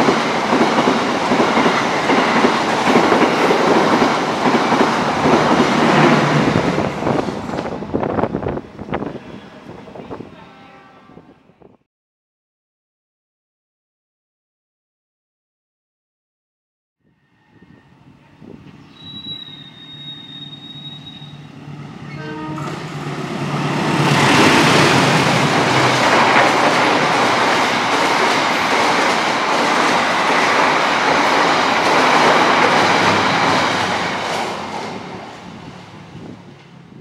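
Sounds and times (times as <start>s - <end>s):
train wheels roaring on rails: 0.0s - 10.5s, 17.3s - 37.0s.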